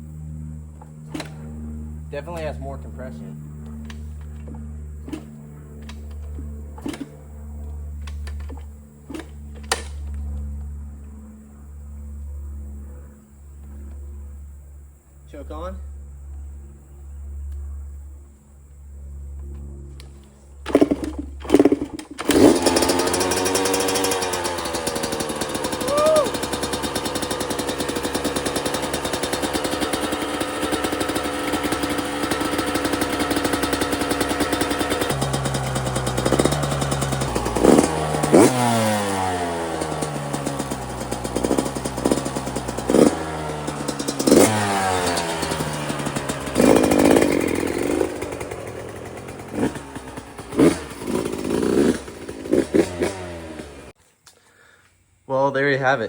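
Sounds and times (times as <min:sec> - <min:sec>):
motorcycle engine revving: 0:00.0 - 0:14.5, 0:18.6 - 0:54.0
motorcycle engine idling: 0:00.0 - 0:55.3
kick starter kicks: 0:00.7 - 0:10.6, 0:19.4 - 0:54.9.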